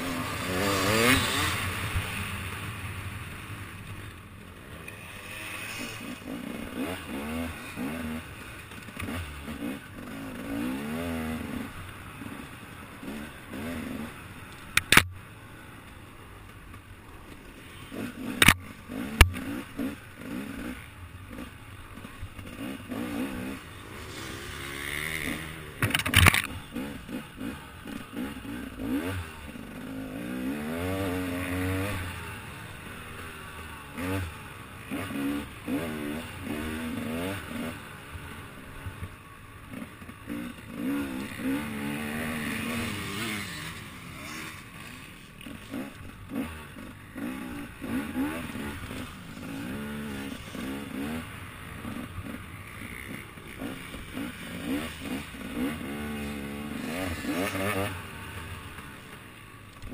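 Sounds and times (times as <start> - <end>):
dirt bike engine revving: 0.0 - 15.0, 17.4 - 59.9.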